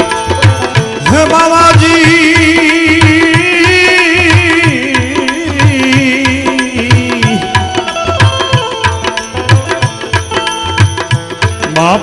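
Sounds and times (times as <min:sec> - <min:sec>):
hand drum beat: 0:00.0 - 0:12.0
held melody line: 0:00.0 - 0:12.0.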